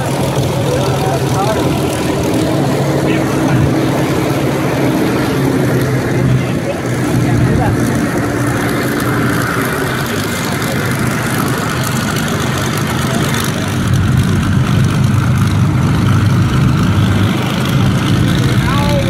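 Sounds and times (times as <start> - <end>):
propeller plane engines idling: 0.0 - 19.0.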